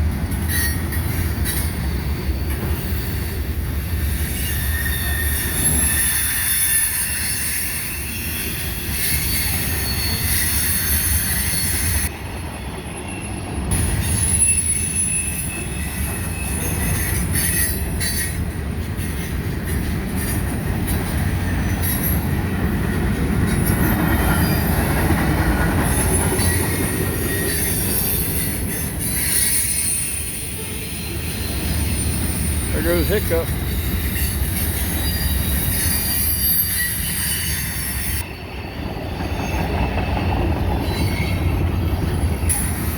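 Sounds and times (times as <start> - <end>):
freight train low rumble: 0.0 - 42.9
steel wheels squealing on rails: 0.0 - 42.9.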